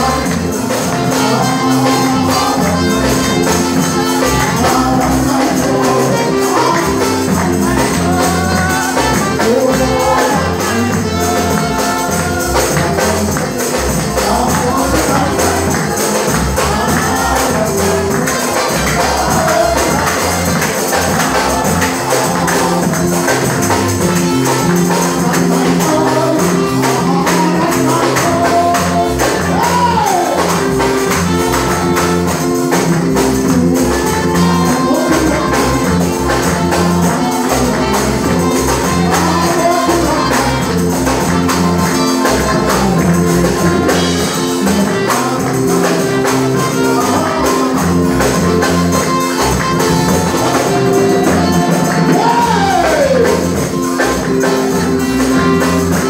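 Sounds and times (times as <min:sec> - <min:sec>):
bass line: 0:00.0 - 0:56.0
electronic keyboard chords: 0:00.0 - 0:56.0
tambourine jingling: 0:00.0 - 0:56.0
voices singing: 0:00.0 - 0:56.0.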